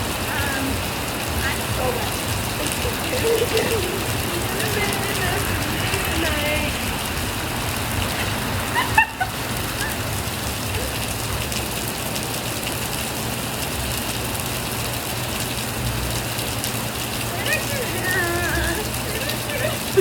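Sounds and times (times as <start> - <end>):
rain falling on surfaces: 0.0 - 20.0.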